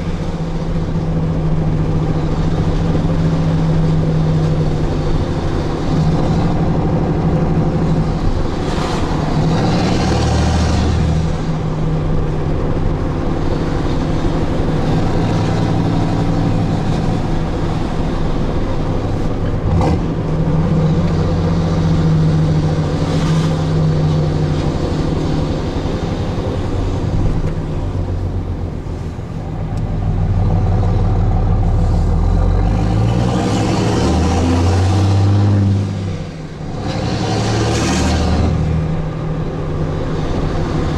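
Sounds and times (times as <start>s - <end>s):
loud diesel truck engine revving: 0.0s - 28.8s, 29.4s - 40.9s.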